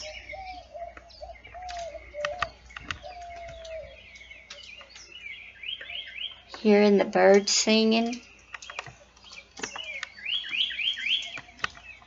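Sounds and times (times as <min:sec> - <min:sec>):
birds singing and chirping: 0:00.0 - 0:12.0.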